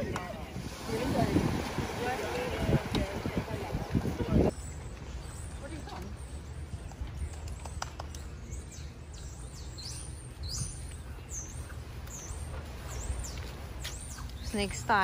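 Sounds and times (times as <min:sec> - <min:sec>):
small birds chirping: 0:02.0 - 0:15.0.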